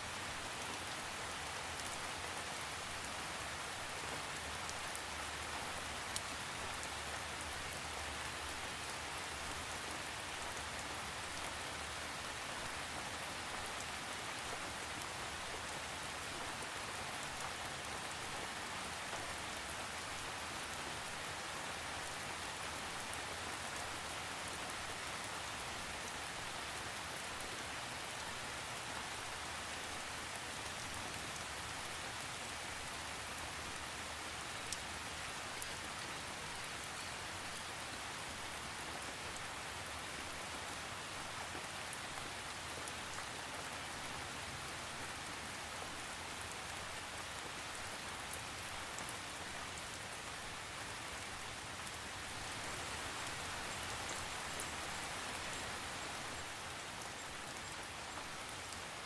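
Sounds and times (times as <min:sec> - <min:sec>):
steady rain: 0:00.0 - 0:59.0
raindrops pattering on surface: 0:00.2 - 0:59.0.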